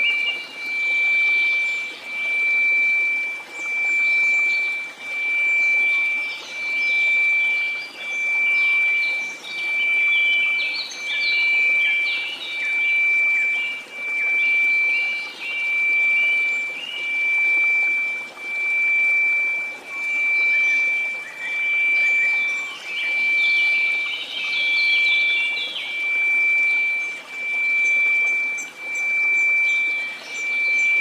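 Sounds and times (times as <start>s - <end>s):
steady sine tone: 0.0s - 31.0s.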